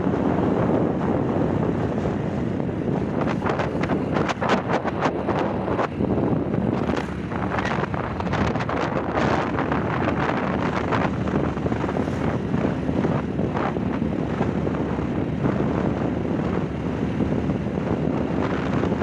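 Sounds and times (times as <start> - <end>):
motorcycle engine cruising: 0.0 - 19.0
wind buffeting microphone: 0.0 - 19.0.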